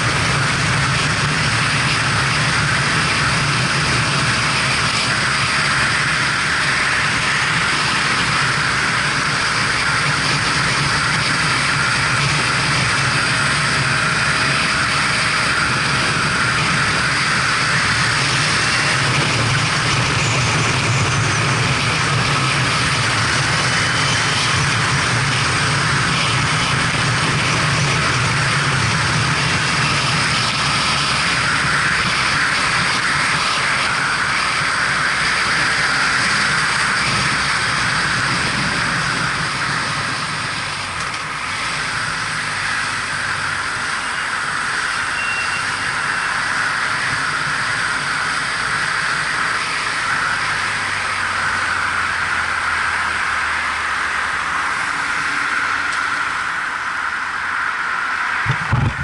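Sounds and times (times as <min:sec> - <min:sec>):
motorcycle engine running: 0:00.0 - 0:52.3, 0:58.4 - 0:59.0
wind and road noise: 0:00.0 - 0:59.0.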